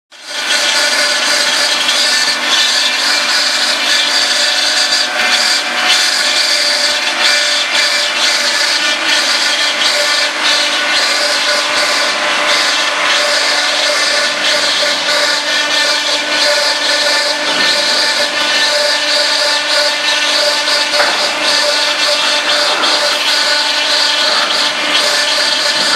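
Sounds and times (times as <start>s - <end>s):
machine humming and hissing: 0.2s - 25.9s.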